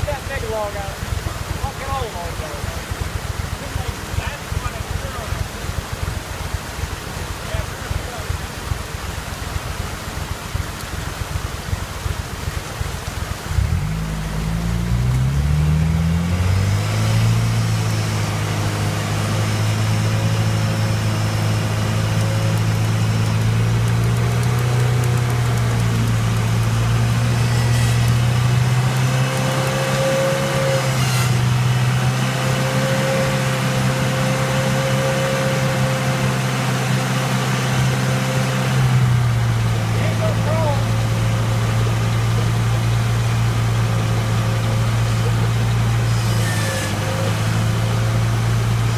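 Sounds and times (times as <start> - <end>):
buggy engine revving: 0.0 - 48.9
rushing water: 0.0 - 48.9.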